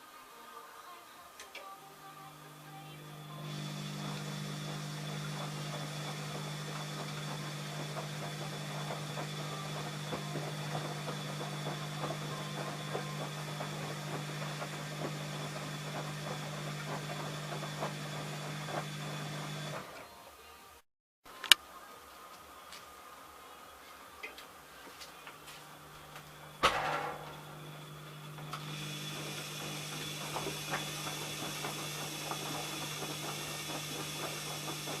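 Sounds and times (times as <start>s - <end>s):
washing machine motor humming: 1.4s - 20.0s, 25.2s - 35.0s.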